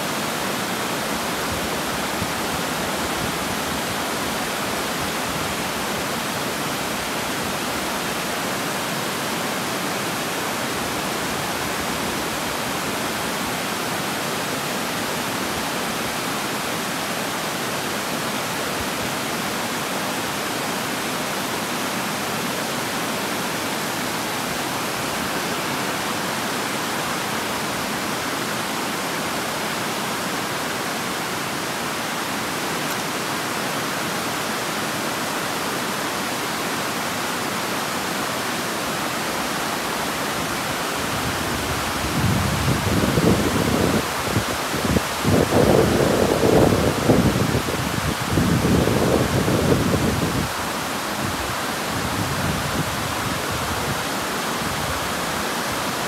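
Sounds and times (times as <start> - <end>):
water rushing over weir: 0.0 - 56.0.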